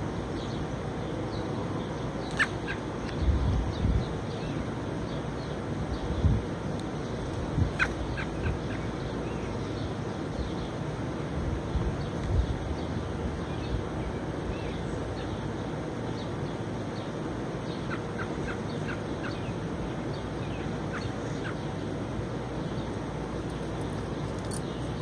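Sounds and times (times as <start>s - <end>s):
small birds chirping: 0.3s - 11.0s, 11.7s - 25.0s.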